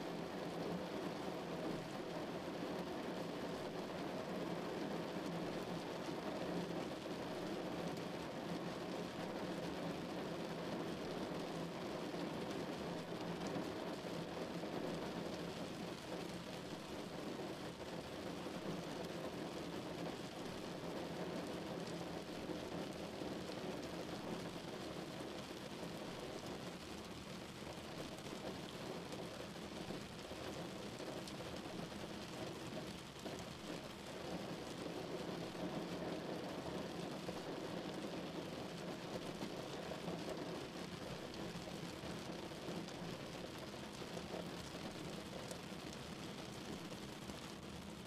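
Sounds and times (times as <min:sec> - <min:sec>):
rain on car: 0:00.0 - 0:48.0.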